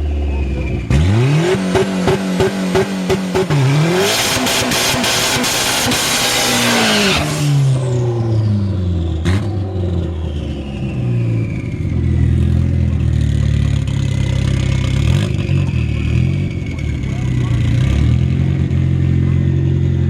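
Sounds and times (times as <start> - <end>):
high turbo whine: 0.0 - 19.9
car engine running at low revs: 0.0 - 20.0.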